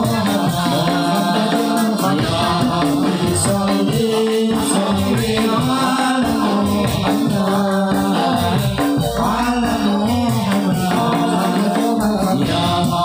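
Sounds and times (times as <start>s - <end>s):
jingling percussion: 0.0s - 13.0s
person singing over a beat: 0.0s - 13.0s.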